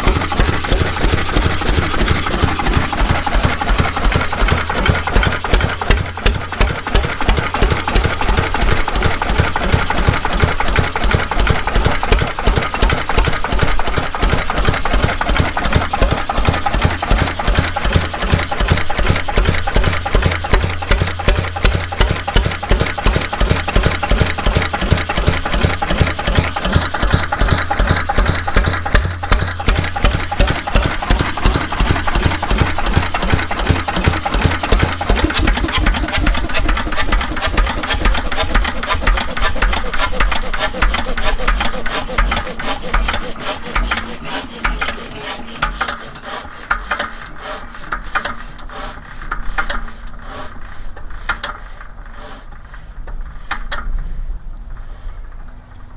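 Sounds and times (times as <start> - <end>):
stationary diesel engine running: 0.0 - 47.0.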